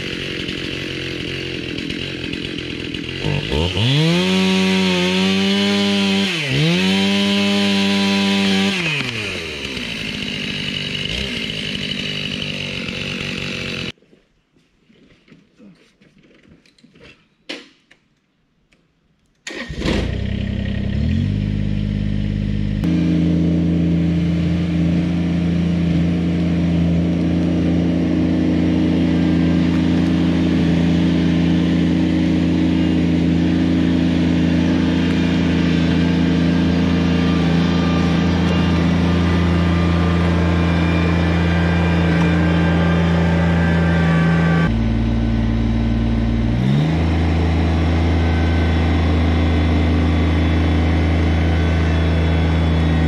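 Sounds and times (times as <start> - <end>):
tractor diesel engine running: 0.0 - 14.0, 19.5 - 53.0.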